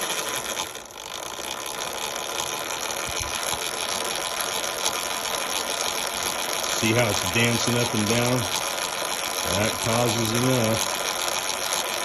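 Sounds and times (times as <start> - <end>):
chain drive clicking rattle: 0.0 - 12.0.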